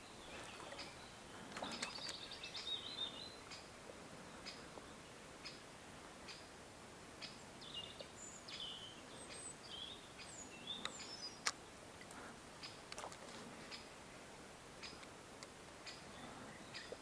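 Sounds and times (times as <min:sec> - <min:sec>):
faint steady hiss: 0:00.0 - 0:17.0
songbirds singing: 0:00.0 - 0:17.0.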